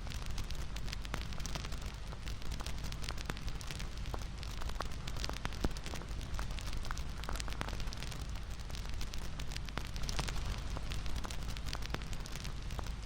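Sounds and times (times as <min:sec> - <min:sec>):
low rumble of flames: 0:00.0 - 0:13.0.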